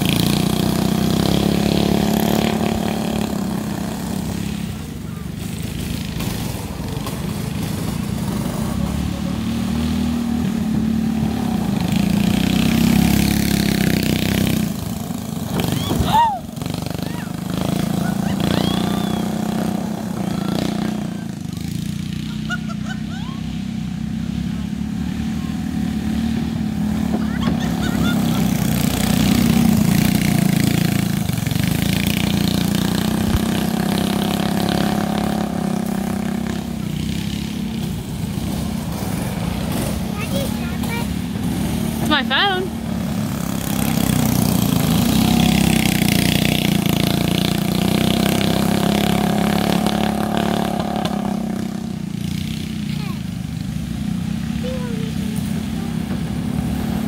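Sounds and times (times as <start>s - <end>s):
go-kart engines passing: 0.0s - 57.0s.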